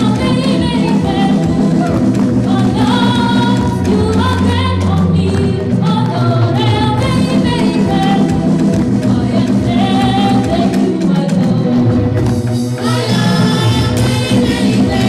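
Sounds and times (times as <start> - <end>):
female backing singers: 0.0 - 12.1, 12.7 - 15.0
woman singing into microphone: 0.0 - 12.2, 12.8 - 15.0
instrumental accompaniment with bass: 0.0 - 15.0.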